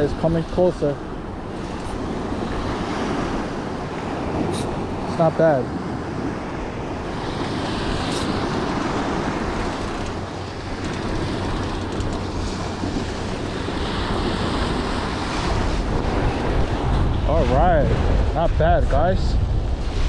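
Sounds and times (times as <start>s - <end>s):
waves washing up a beach: 0.0s - 20.0s
wind buffeting microphone: 0.0s - 20.0s.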